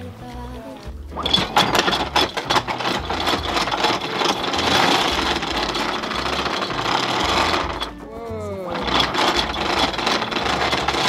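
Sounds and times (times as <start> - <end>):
anchor chain rattling: 1.1 - 8.1, 8.7 - 11.0.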